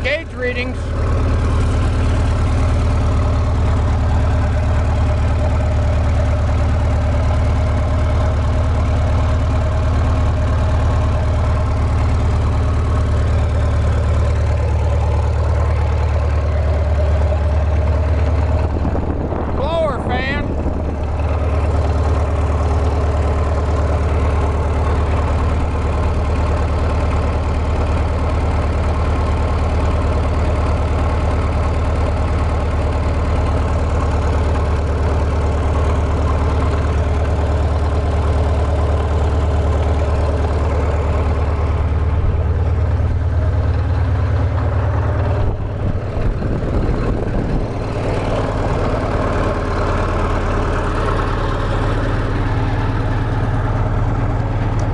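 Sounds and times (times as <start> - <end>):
cooling blower fan: 0.0 - 54.9
diesel engine fast idle: 0.0 - 54.9.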